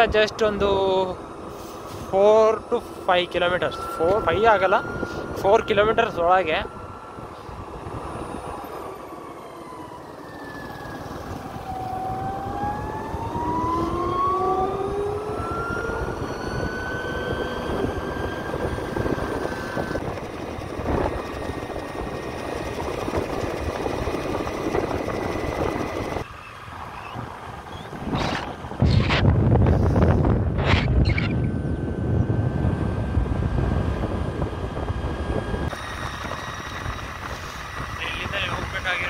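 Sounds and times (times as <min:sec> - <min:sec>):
vehicle engine accelerating: 0:07.5 - 0:39.0.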